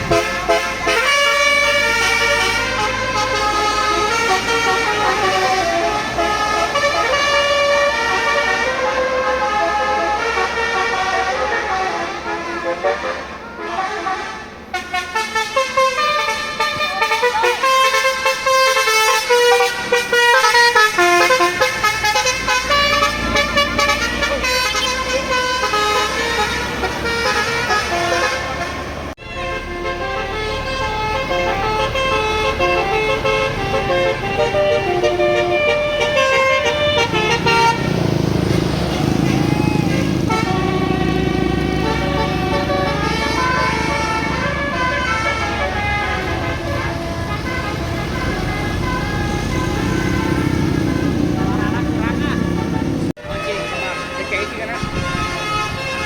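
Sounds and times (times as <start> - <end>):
bus horn playing a tune: 0.0 - 56.0.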